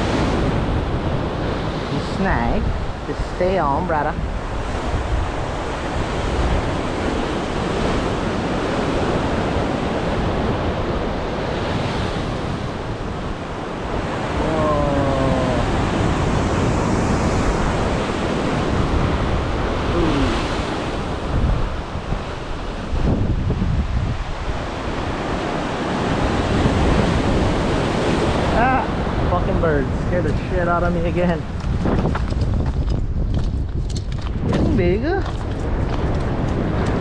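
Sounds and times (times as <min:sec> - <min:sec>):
ocean surf: 0:00.0 - 0:37.0
wind buffeting microphone: 0:00.0 - 0:37.0.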